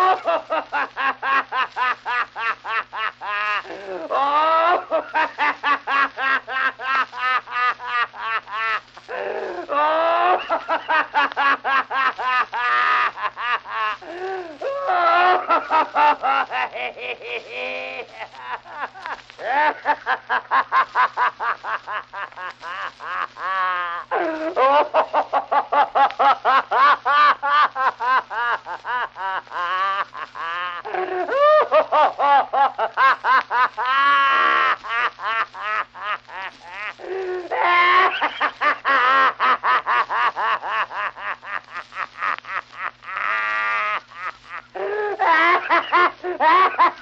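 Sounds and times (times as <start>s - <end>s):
faint steady hum: 0.0s - 47.0s
old man laughing hard: 0.0s - 47.0s.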